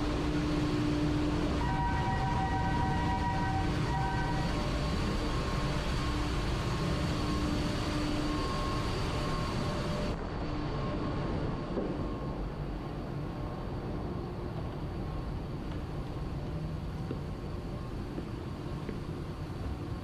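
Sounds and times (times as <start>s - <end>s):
engine-room machinery running: 0.0s - 20.0s
faint steady tones: 0.0s - 20.0s.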